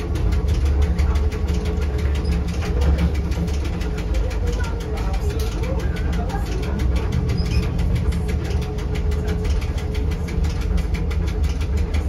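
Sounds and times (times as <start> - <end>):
running gear clattering: 0.0 - 12.0
train rumbling: 0.0 - 12.0.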